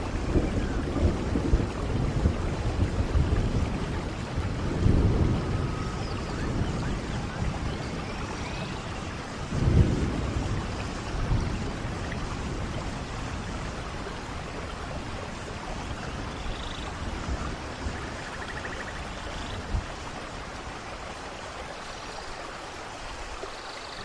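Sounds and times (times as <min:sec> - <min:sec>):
thunder rolling: 0:00.0 - 0:19.9
steady rainfall: 0:00.0 - 0:24.0.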